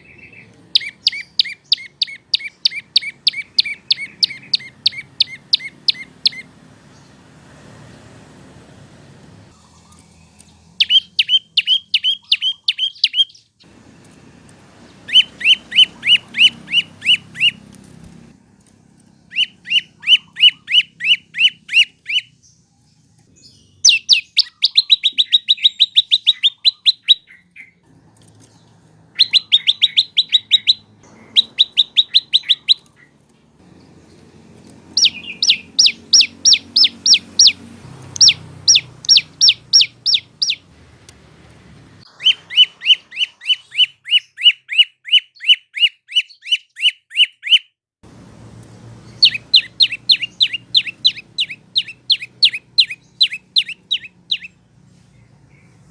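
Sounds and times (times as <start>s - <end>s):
bird singing sharp chirps: 0.0s - 7.2s, 9.5s - 13.7s, 14.9s - 17.7s, 19.2s - 27.8s, 28.6s - 34.2s, 34.8s - 40.7s, 42.0s - 47.7s, 48.8s - 55.9s.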